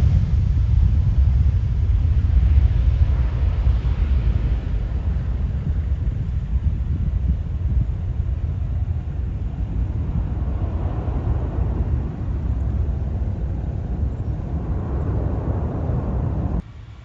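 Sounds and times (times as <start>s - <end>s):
wind buffeting microphone: 0.0s - 16.8s
jet engines rumbling: 0.0s - 17.0s.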